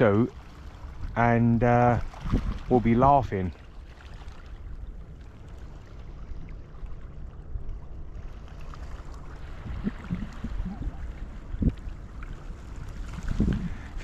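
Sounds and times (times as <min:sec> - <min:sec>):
moving tidal water: 0:00.0 - 0:14.0
wind: 0:00.0 - 0:14.0.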